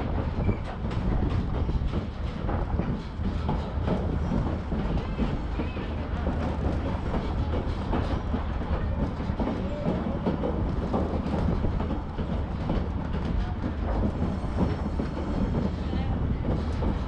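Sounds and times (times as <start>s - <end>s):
rattling clickety-clack: 0.0s - 17.0s
train wheels rumbling on rail: 0.0s - 17.0s.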